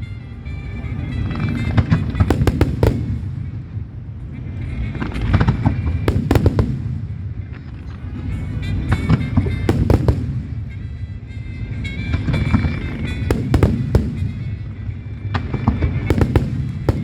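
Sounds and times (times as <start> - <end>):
fireworks cracking: 1.3 - 4.0, 4.7 - 11.2, 12.0 - 17.0.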